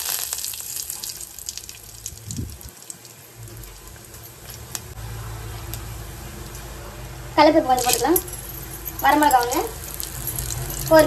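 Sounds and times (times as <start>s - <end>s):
spices sizzling and popping in oil: 0.0s - 6.7s, 7.7s - 11.0s.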